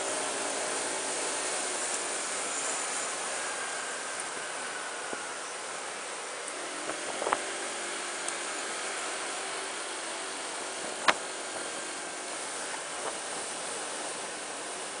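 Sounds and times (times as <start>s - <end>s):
wind and road rush: 0.0s - 15.0s.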